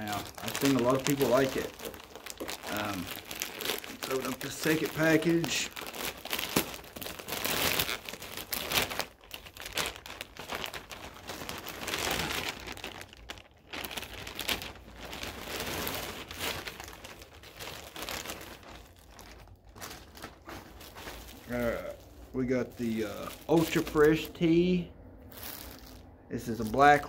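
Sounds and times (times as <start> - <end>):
plastic mailer bag crinkling: 0.0 - 27.0.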